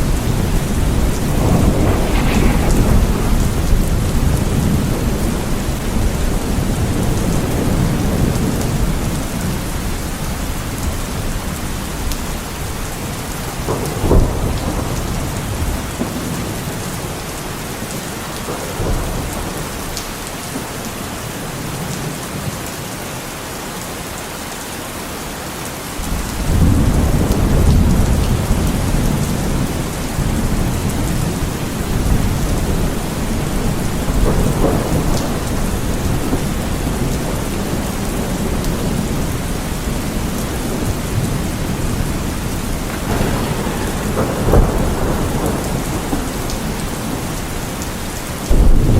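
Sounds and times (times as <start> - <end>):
deep rumbling thunder: 0.0 - 22.2, 26.0 - 48.9
heavy rain falling: 0.0 - 48.9.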